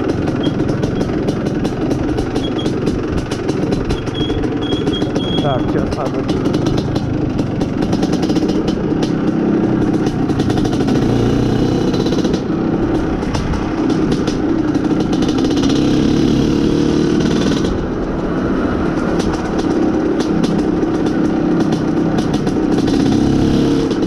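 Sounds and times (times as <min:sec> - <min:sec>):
two-stroke motorcycle engine running: 0:00.0 - 0:24.0.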